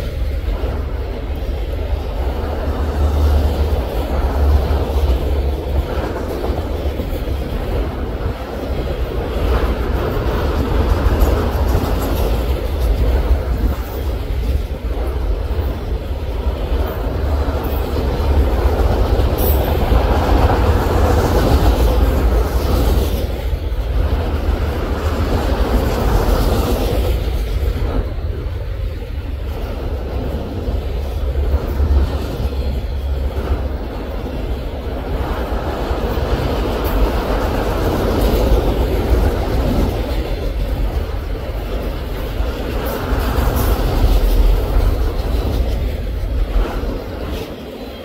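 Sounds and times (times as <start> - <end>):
train wheels rolling on rails: 0.0 - 48.0.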